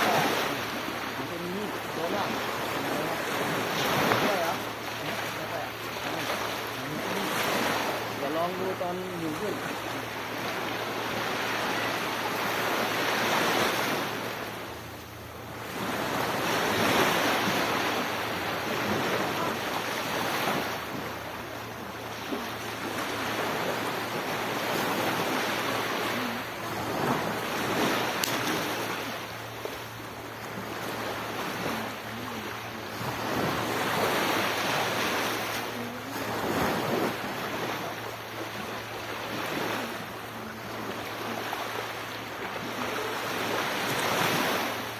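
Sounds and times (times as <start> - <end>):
waves breaking on shore: 0.0 - 44.9.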